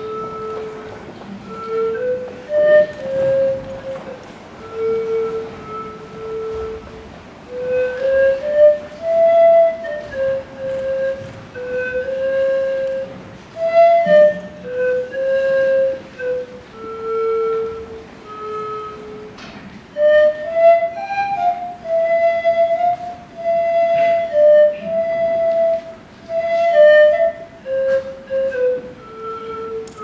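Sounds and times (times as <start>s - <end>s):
solo flute melody: 0.0s - 30.0s.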